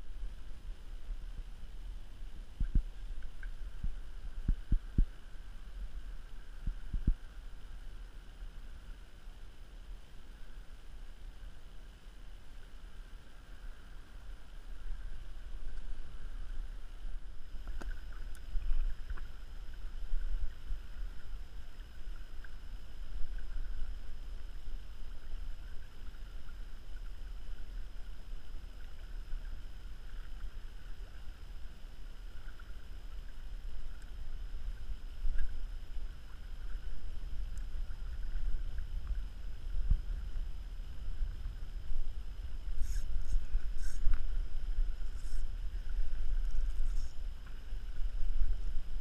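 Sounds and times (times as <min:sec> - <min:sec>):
wind rumbling on microphone: 0:00.0 - 0:08.8, 0:13.6 - 0:49.0.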